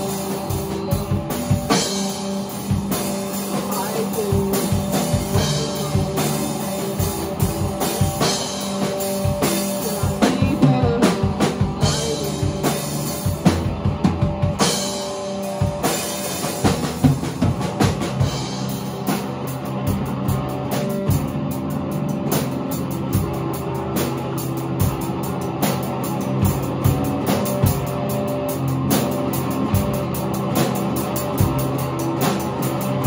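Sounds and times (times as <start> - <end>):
drum kit hitting hard: 0.0 - 33.0
electric bass: 0.0 - 33.0
electric guitar: 0.0 - 33.0
rock band playing live: 0.0 - 33.0.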